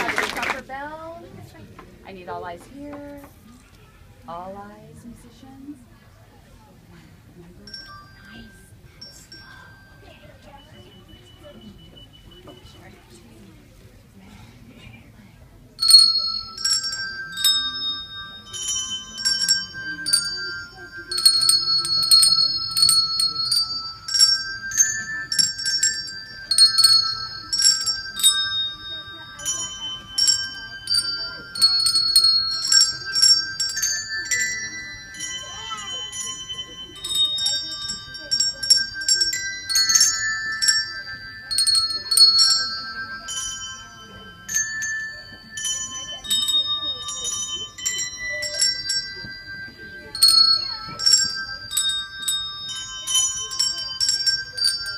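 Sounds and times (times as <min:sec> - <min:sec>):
handbells ringing a tune: 0:06.8 - 0:14.5, 0:15.4 - 0:54.9.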